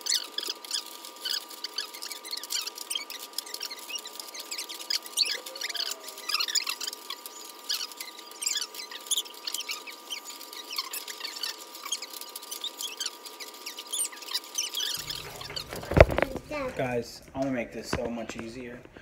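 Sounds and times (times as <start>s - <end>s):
candy wrappers crinkling: 0.1s - 19.0s.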